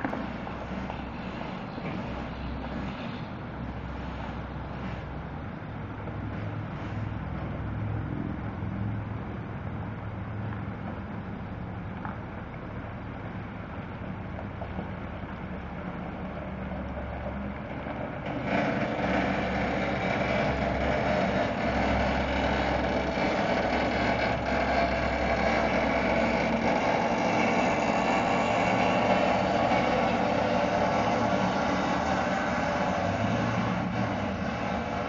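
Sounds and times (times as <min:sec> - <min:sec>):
truck diesel engine passing: 0:00.0 - 0:35.0.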